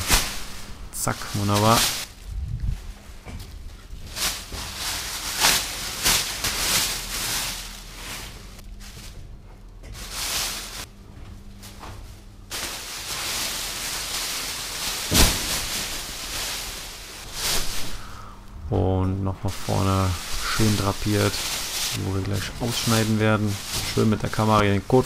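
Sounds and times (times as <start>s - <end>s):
plastic film rustling and crinkling: 0.0s - 10.9s, 11.5s - 18.5s, 19.4s - 25.0s
low steady hum: 0.0s - 25.0s.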